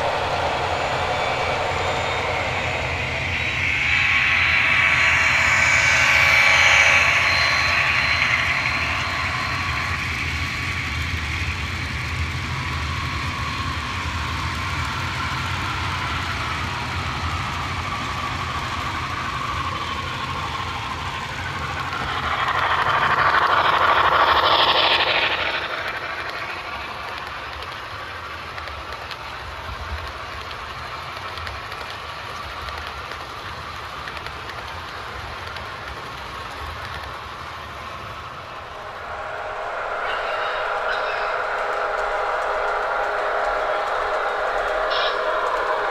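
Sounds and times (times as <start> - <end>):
model trains rolling hum: 0.0 - 45.9.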